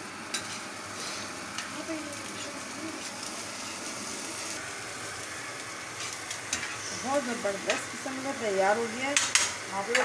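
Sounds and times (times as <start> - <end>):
eggs sizzling on a griddle: 0.0 - 10.0.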